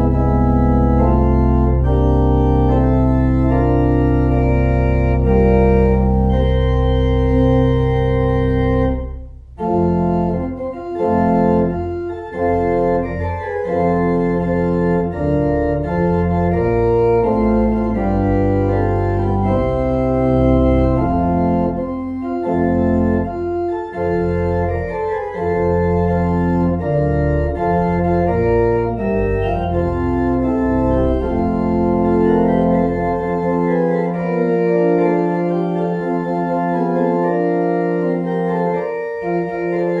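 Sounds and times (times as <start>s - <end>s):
organ chords: 0.0s - 40.0s.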